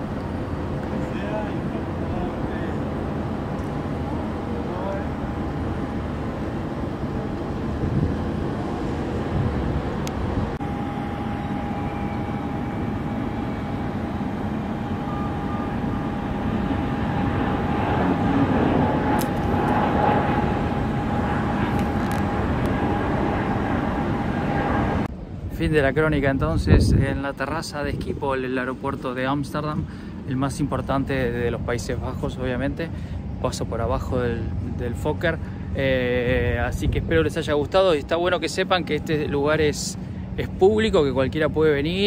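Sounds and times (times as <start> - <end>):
jet engines rumble and whine: 0.0 - 42.0.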